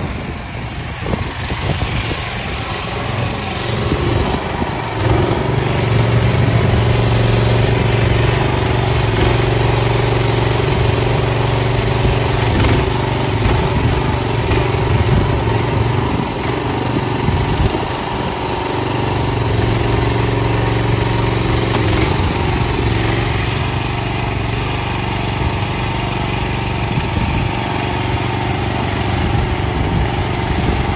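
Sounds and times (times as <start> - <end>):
small petrol engine running: 0.0 - 30.9.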